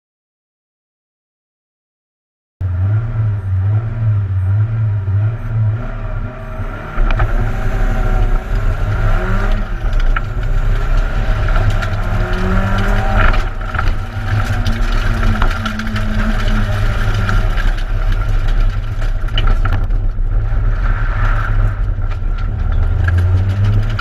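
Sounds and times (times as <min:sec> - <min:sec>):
car engine accelerating: 0:02.6 - 0:24.0.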